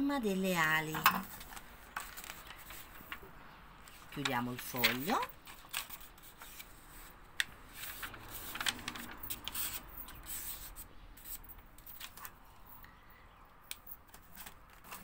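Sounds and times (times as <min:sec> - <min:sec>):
paper rustling and crinkling: 0:01.3 - 0:12.4, 0:14.0 - 0:15.0.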